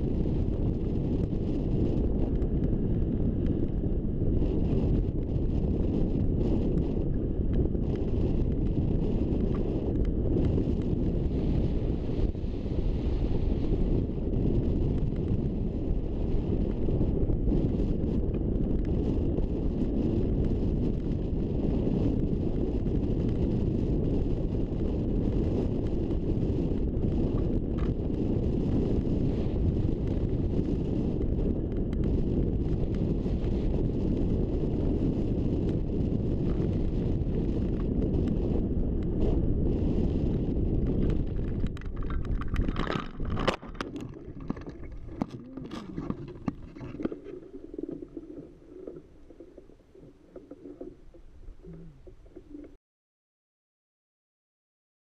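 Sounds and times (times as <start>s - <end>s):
wind buffeting microphone: 0.0s - 52.8s.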